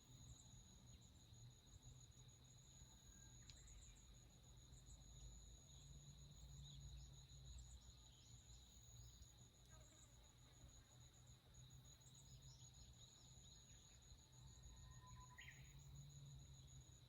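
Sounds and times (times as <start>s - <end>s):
insects trilling: 0.1s - 17.0s.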